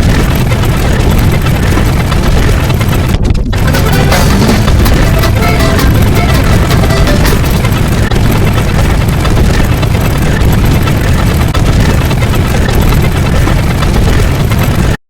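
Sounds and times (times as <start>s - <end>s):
distorted wall of noise: 0.0s - 15.0s.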